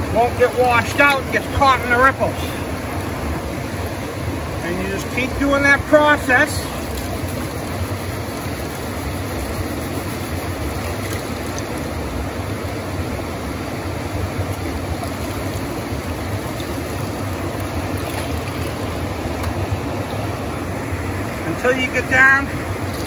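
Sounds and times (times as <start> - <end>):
stream flowing: 0.0 - 23.0.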